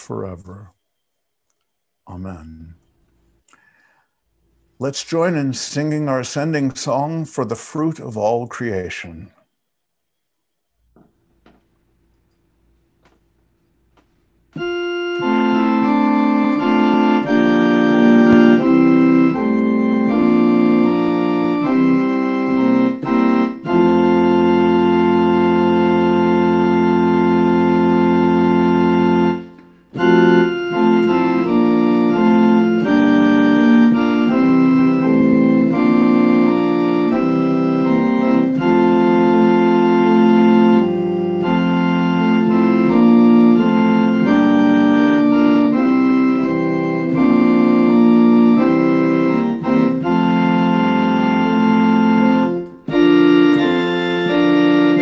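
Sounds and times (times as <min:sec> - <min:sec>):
organ playing a hymn: 0:00.0 - 0:55.0.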